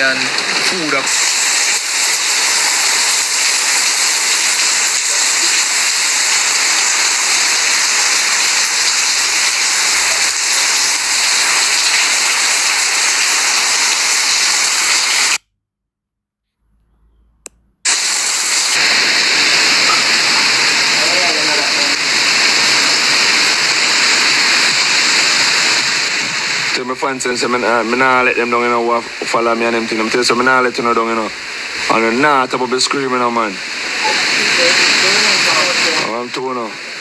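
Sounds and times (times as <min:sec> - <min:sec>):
heavy rain hiss: 0:00.0 - 0:15.4, 0:17.9 - 0:37.0.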